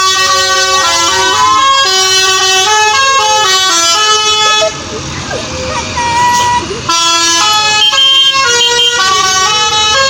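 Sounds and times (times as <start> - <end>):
bus musical horn melody: 0.0 - 10.0.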